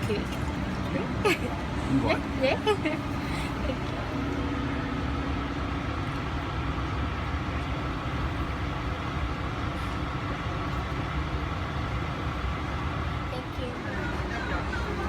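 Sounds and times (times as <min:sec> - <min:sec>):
air-conditioning air rushing: 0:00.0 - 0:15.0
low cabin rumble: 0:00.0 - 0:15.0.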